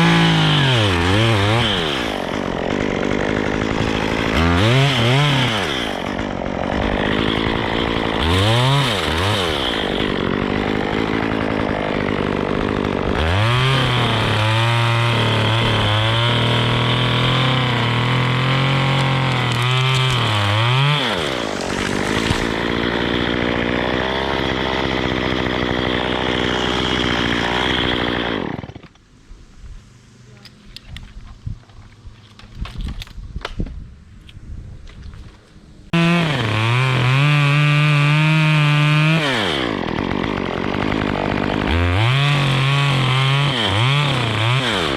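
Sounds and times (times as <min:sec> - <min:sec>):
chainsaw engine revving: 0:00.0 - 0:28.9, 0:35.9 - 0:44.9.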